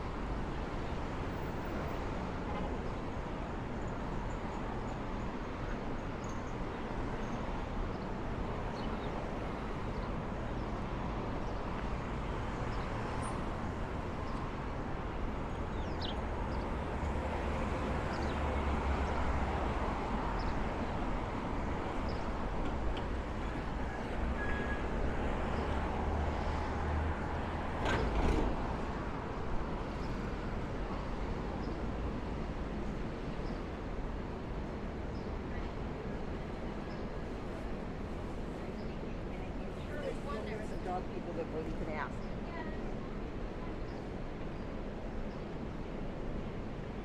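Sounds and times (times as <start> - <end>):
city street traffic: 0.0 - 47.0.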